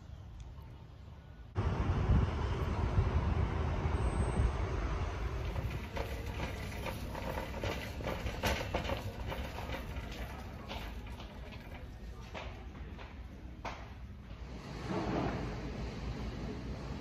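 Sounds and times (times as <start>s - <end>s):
low building hum: 0.0s - 17.0s.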